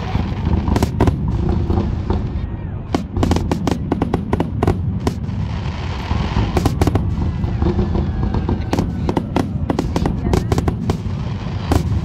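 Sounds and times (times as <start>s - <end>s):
firework hiss: 0.0s - 12.0s
firework shells bursting: 0.0s - 12.0s
low rumble of booms: 0.0s - 12.0s.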